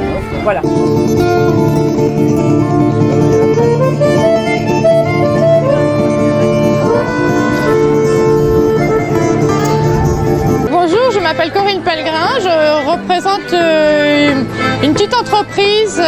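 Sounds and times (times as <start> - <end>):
accordion melody: 0.0 - 16.0
strummed acoustic guitars: 0.6 - 16.0.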